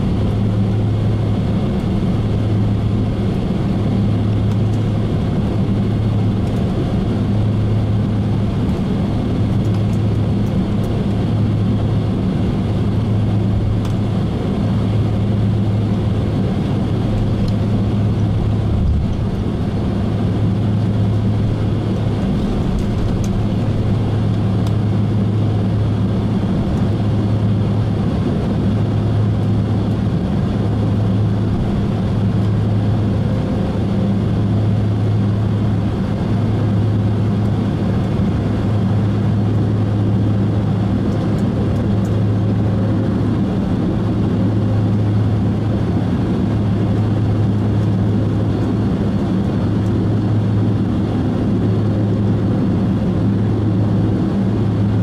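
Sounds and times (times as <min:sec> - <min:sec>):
jet engines droning in cabin: 0:00.0 - 0:55.0.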